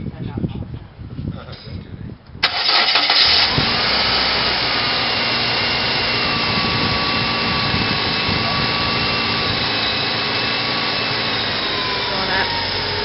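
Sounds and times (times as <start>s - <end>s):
car engine idling: 2.4s - 13.0s.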